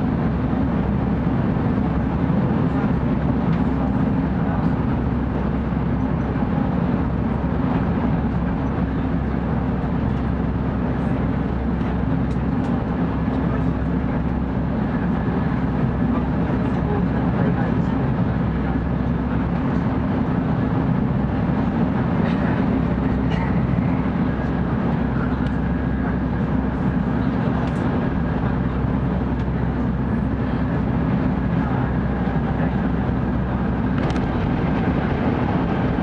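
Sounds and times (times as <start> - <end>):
train cabin low rumble: 0.0 - 36.0.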